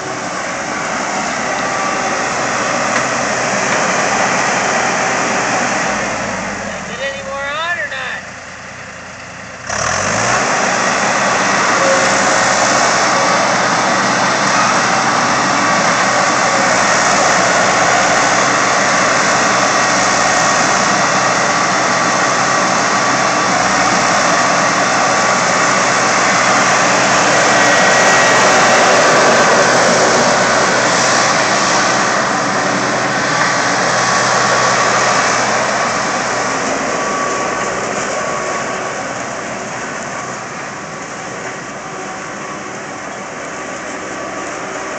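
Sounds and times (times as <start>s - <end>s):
loader engine running at high revs: 0.0s - 44.9s.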